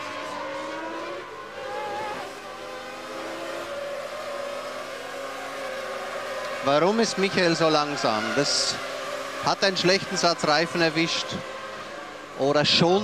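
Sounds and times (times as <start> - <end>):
racing car engine at high revs: 0.0 - 13.0.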